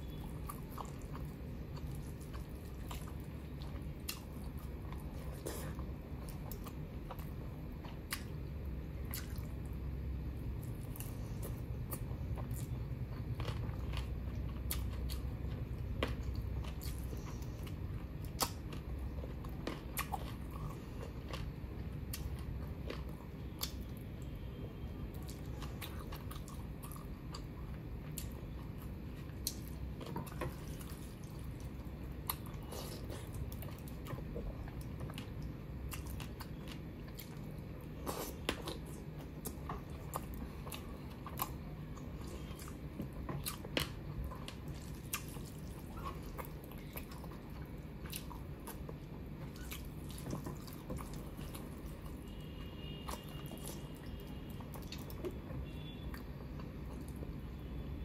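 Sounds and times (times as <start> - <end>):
low steady hum: 0.0 - 58.0
wet eating clicks and smacks: 0.5 - 9.7, 10.6 - 20.6, 25.2 - 57.3.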